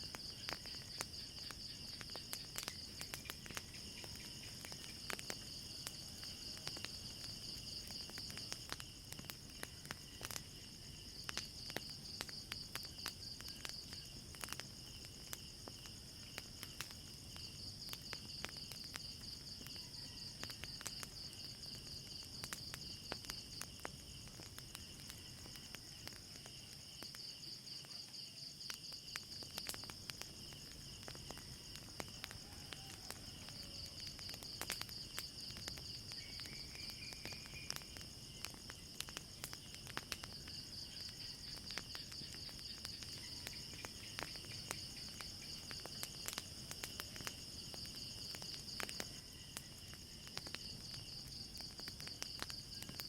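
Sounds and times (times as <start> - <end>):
crickets trilling: 0.0 - 53.0
fire crackling and popping: 0.0 - 53.0.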